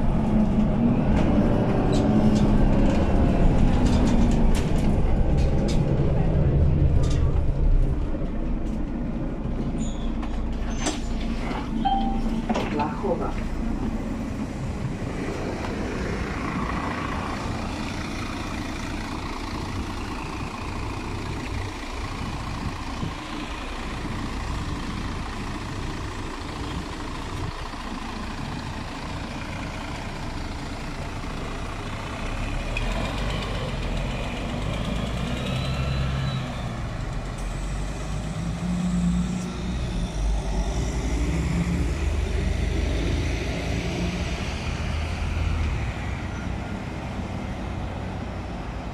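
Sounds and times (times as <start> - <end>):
bus diesel engine: 0.0 - 48.9
road traffic: 0.0 - 48.9.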